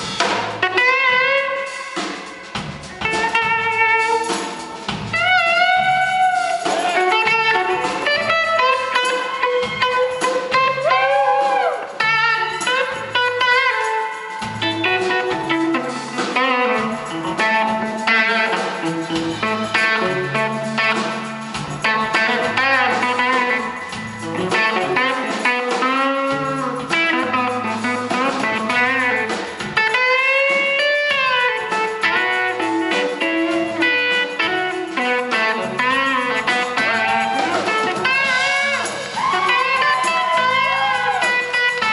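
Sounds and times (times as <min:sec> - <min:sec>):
blues-rock band playing: 0:00.0 - 0:41.9
electric guitar solo: 0:00.6 - 0:41.9.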